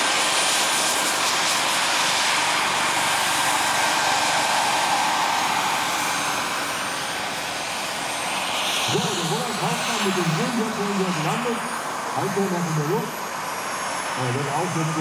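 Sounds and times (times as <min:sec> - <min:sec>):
turbine engine whine: 0:00.0 - 0:15.0.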